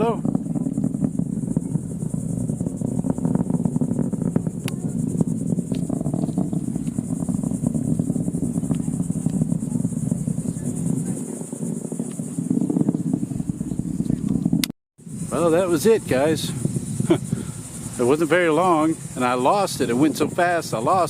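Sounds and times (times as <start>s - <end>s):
distant rocket launch rumble: 0.0s - 21.0s
insects chirring: 0.0s - 21.0s.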